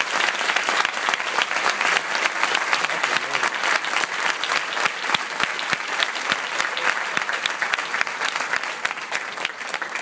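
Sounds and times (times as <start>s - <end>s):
audience applauding: 0.0s - 10.0s
close sharp claps: 0.0s - 10.0s.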